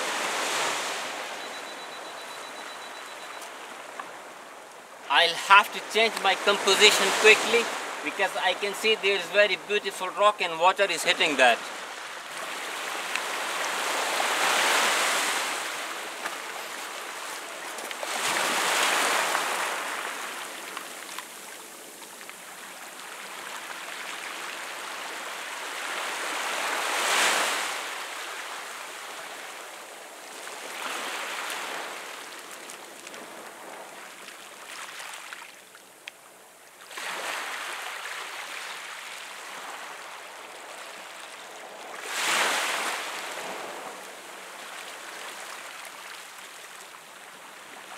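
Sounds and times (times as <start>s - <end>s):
small waves on stony shore: 0.0s - 47.9s.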